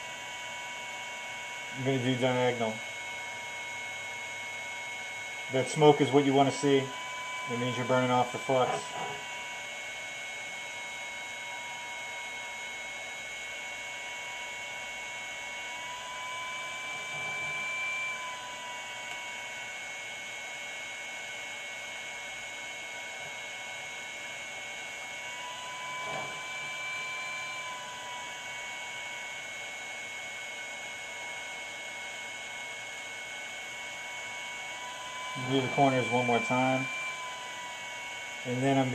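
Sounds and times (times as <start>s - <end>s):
faint steady whine: 0.0s - 38.9s
rework station whirring hum: 0.0s - 38.9s.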